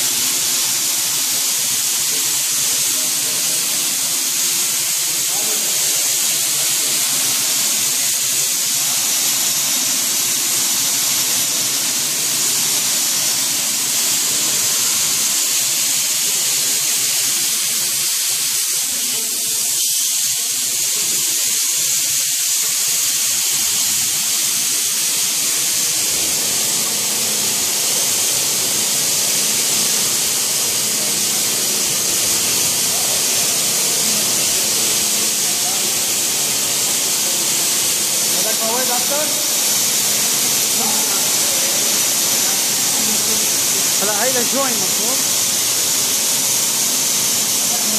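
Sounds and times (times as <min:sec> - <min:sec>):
plaster spray gun hissing: 0:00.0 - 0:47.9.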